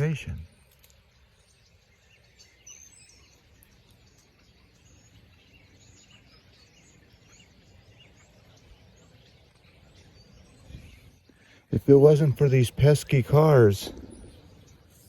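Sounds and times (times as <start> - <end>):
flock of birds chirping: 0.0 - 15.0.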